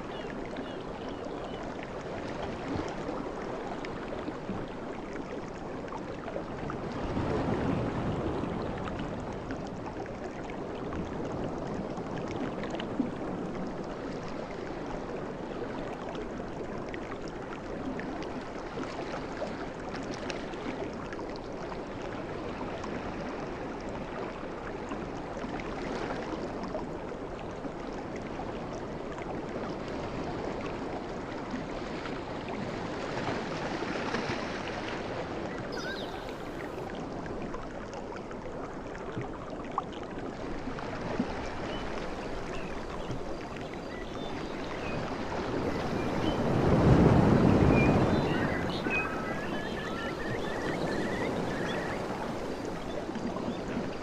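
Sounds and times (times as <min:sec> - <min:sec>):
sea waves washing on a beach: 0:00.0 - 0:54.0.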